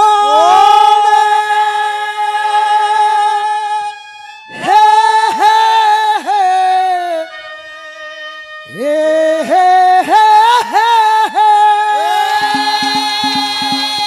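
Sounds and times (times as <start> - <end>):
person singing long wordless notes: 0.0 - 7.7, 8.7 - 14.0.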